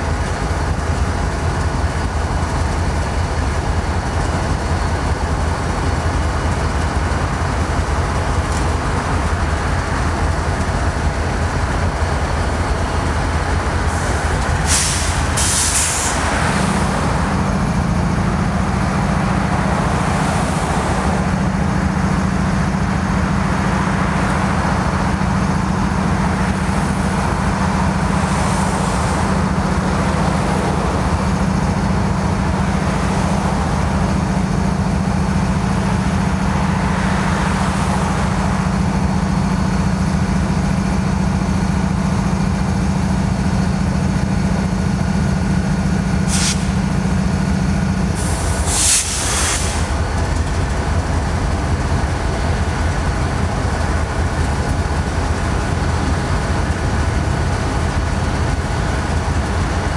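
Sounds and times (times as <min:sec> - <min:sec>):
cars passing on road: 0:00.0 - 0:59.9
diesel locomotives idling: 0:00.0 - 0:59.9.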